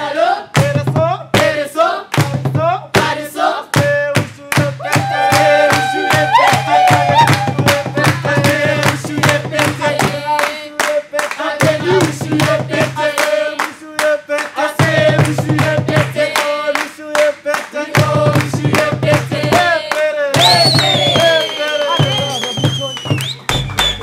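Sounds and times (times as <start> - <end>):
group singing upbeat song: 0.0 - 22.4
rhythmic hand clapping: 0.2 - 24.0.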